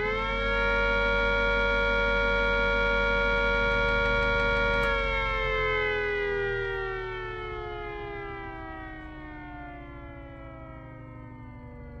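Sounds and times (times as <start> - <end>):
electric siren winding down: 0.0 - 12.0.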